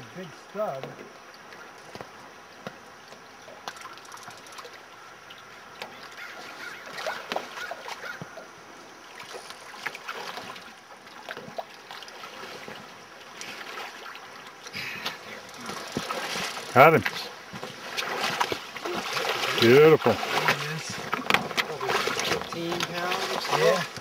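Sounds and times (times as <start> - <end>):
river water running: 0.0 - 24.0.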